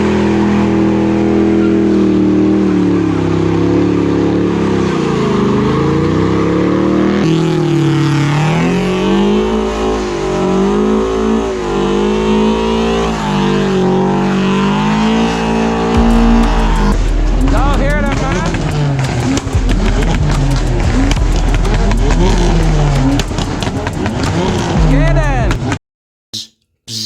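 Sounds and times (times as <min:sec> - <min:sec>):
car engines revving: 0:00.0 - 0:25.8.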